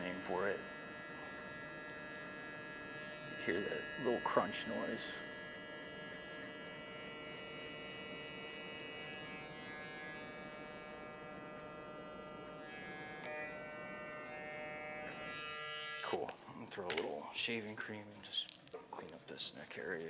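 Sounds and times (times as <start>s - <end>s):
hair clippers humming: 0.0s - 17.1s
crunch of hair being cut: 0.0s - 17.2s.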